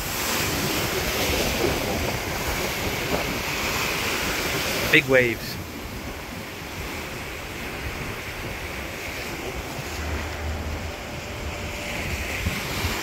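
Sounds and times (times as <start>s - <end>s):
sea waves breaking: 0.0s - 13.0s
wind blowing on microphone: 0.0s - 13.0s.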